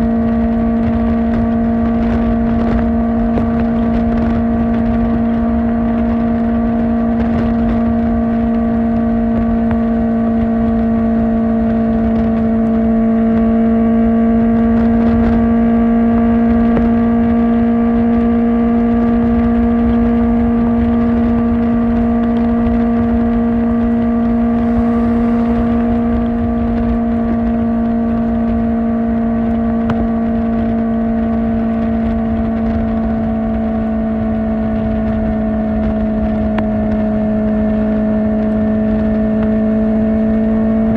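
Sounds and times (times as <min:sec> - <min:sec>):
motorcycle engine high-revving cruise: 0:00.0 - 0:40.9
wind and road noise: 0:00.0 - 0:40.9.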